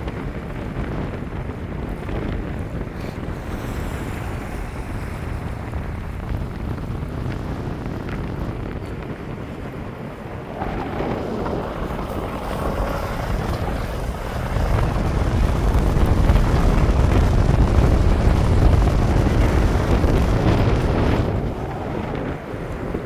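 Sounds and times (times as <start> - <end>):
wind buffeting microphone: 0.0 - 23.0
sea waves washing: 1.2 - 23.0.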